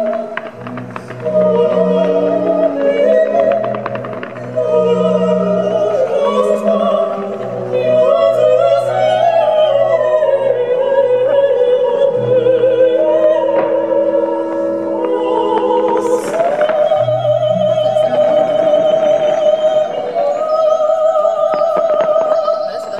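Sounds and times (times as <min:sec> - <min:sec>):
operatic singing: 0:00.0 - 0:22.9
orchestral accompaniment: 0:00.0 - 0:22.9.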